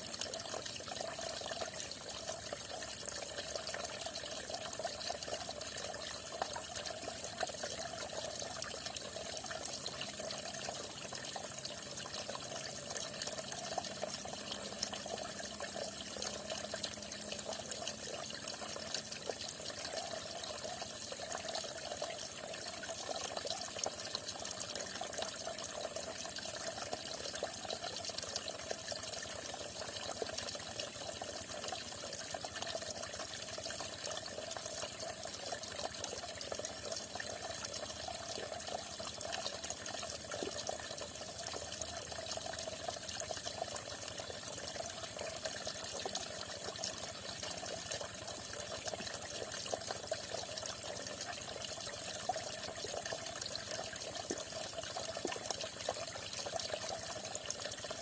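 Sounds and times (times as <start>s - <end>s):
water splashing and trickling: 0.0s - 58.0s.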